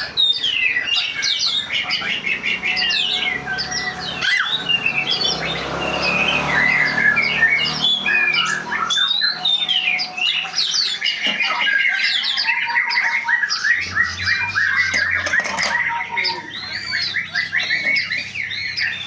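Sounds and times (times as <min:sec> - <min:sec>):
flock of birds chirping: 0:00.0 - 0:19.0.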